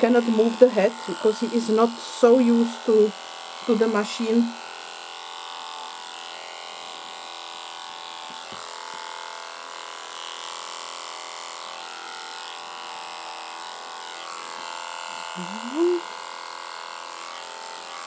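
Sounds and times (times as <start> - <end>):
electric clipper buzzing: 0.0 - 18.0.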